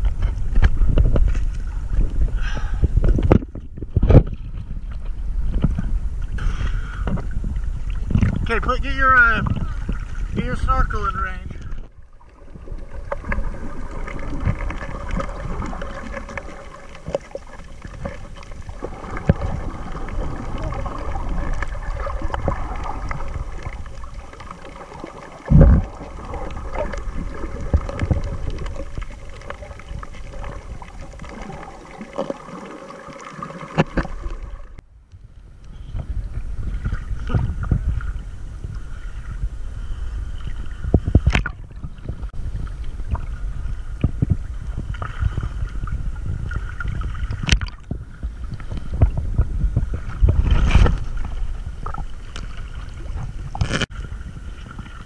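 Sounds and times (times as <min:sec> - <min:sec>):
choppy waves: 0:00.0 - 0:55.0
faint steady hum: 0:00.0 - 0:55.0
water gurgling underwater: 0:00.0 - 0:55.0.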